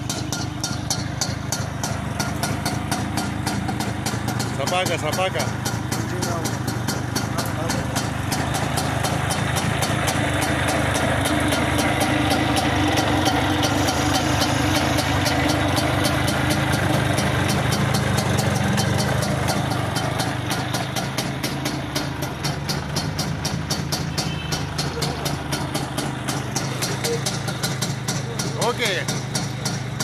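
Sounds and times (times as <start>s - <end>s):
two-stroke engine idling: 0.0s - 30.0s.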